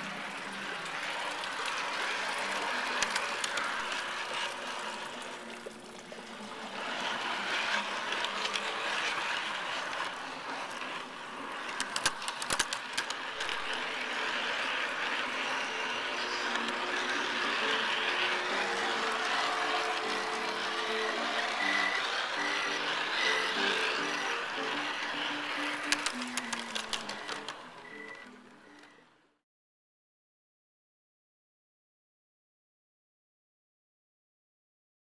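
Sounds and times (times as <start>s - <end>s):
model train wheels rattling: 0.0s - 28.8s.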